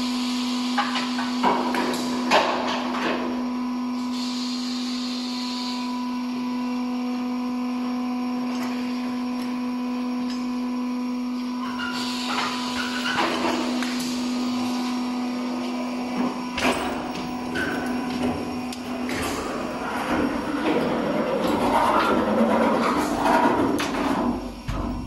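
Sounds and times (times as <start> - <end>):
workshop machine humming: 0.0 - 25.0.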